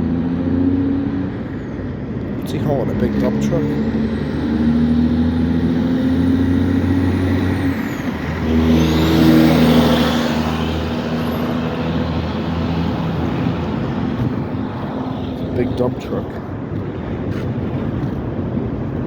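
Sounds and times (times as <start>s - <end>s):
truck diesel engine passing: 0.0s - 16.2s.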